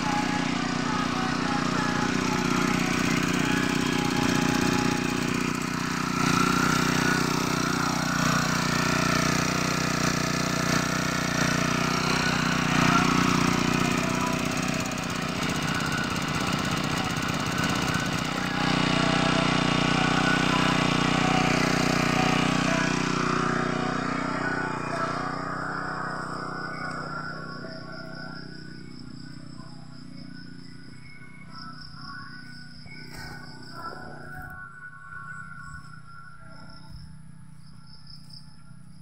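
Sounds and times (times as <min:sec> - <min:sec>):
small sprayer engine running: 0:00.0 - 0:39.0.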